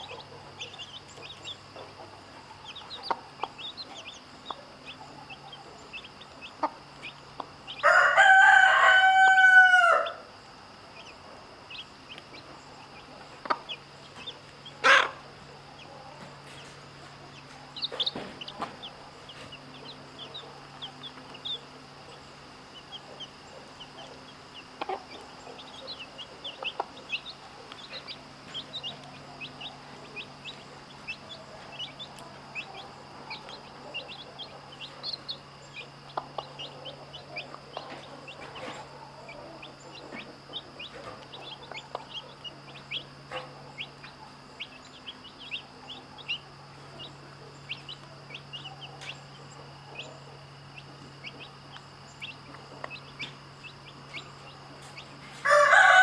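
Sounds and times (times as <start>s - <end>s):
hen clucking: 0.0s - 10.2s, 11.0s - 56.0s
chicks peeping: 0.0s - 56.0s.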